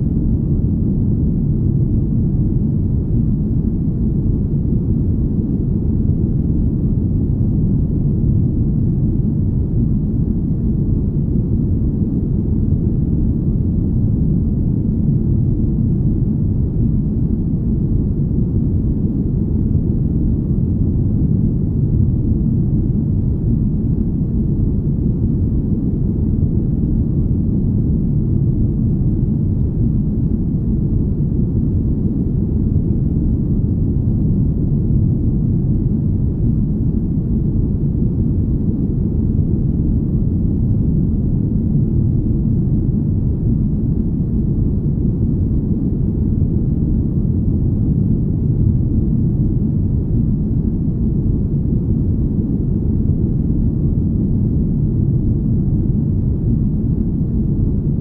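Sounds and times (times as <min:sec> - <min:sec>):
deep rumbling drone: 0:00.0 - 0:58.0.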